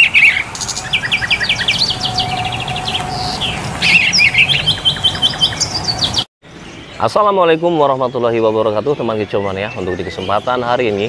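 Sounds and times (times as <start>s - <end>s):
songbird chirps and trills: 0.0s - 11.0s.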